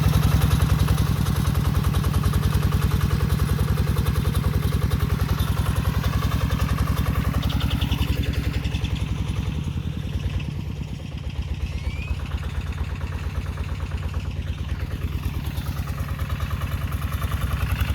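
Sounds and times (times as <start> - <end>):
walk-behind tractor engine running: 0.0 - 17.9.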